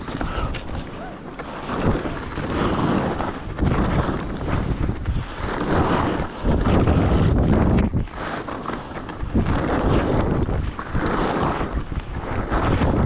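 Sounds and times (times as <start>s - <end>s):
skis sliding over snow: 0.0s - 13.0s
wind buffeting microphone: 0.0s - 13.0s.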